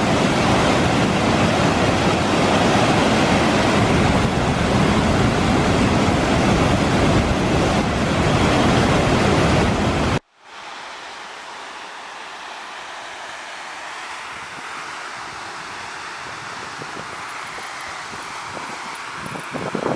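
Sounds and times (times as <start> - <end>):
faint rushing water: 0.0 - 19.9
waterfall roaring: 0.0 - 19.9.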